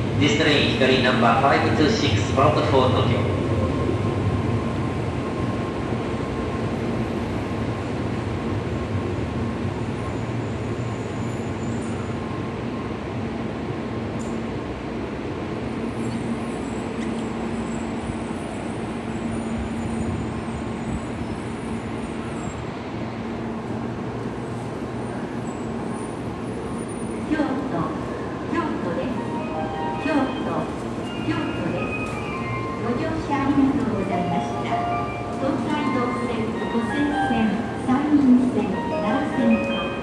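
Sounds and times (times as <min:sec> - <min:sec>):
train running heard from cabin: 0:00.0 - 0:40.0.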